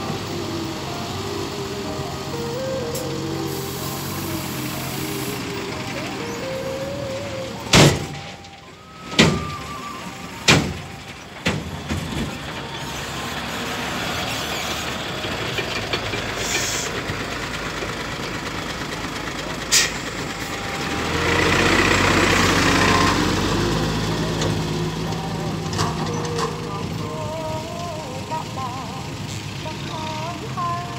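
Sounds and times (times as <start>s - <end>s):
diesel truck engines running: 0.0s - 30.9s.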